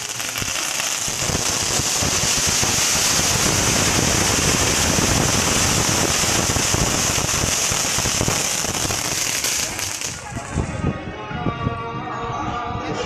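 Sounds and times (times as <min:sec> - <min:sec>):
firecrackers crackling: 0:00.0 - 0:10.6.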